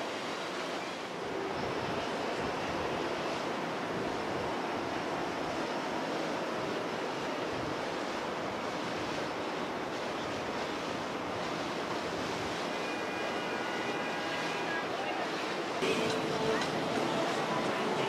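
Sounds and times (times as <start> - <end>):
wind and water rushing: 0.0 - 18.0.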